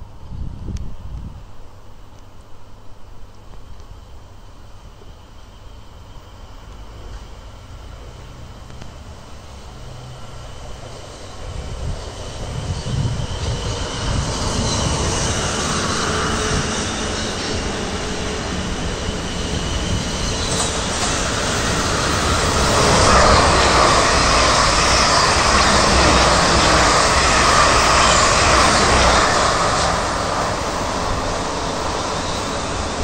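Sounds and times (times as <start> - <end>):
train rail and wheel noise: 0.0 - 33.0.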